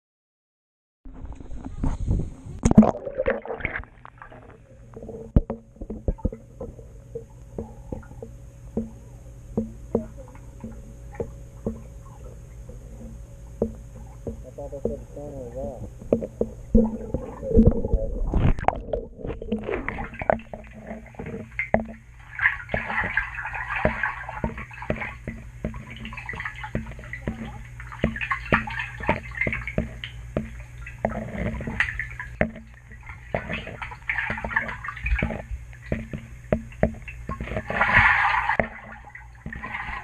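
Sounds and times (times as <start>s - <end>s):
steady low hum: 1.1s - 40.0s
water sloshing and gurgling: 1.1s - 40.0s.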